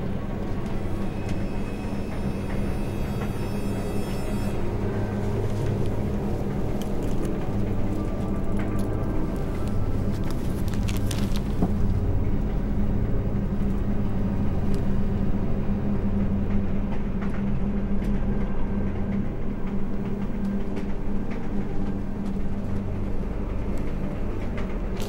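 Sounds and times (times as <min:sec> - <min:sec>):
train carriage rumble and hum: 0:00.0 - 0:25.0.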